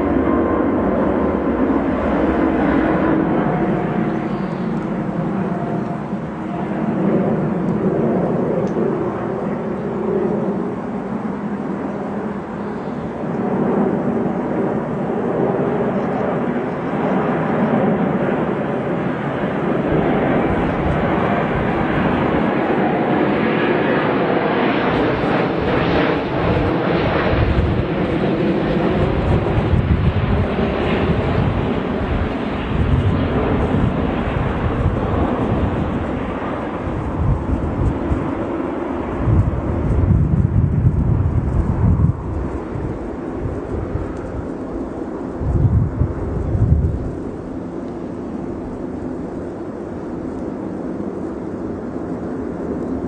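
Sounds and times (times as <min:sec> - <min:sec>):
low rumbling surges: 0:00.0 - 0:50.3
jet engines rushing in flight: 0:00.0 - 0:53.0.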